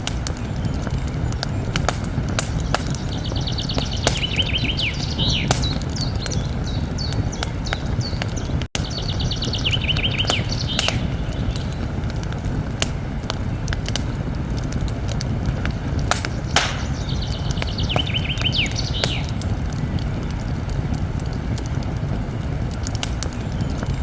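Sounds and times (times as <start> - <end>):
songbird singing: 0.0 - 14.4, 15.6 - 20.9, 23.2 - 24.0
campfire crackling and popping: 0.0 - 24.0.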